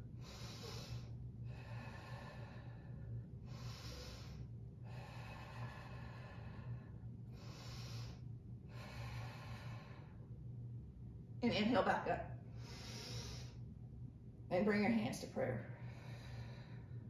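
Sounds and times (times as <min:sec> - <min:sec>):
woman breathing slowly: 0:00.0 - 0:10.9, 0:12.4 - 0:14.1, 0:15.5 - 0:17.0
steady low hum: 0:00.0 - 0:17.0.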